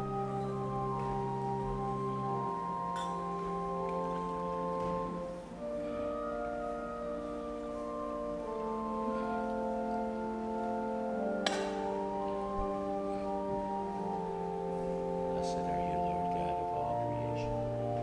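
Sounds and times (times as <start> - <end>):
church organ chords: 0.0 - 18.0.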